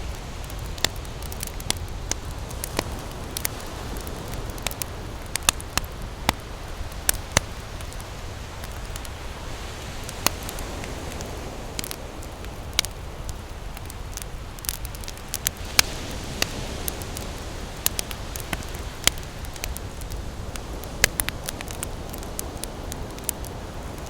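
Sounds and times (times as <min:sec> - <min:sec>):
campfire crackling and popping: 0:00.0 - 0:24.0
ocean surf: 0:00.0 - 0:24.0.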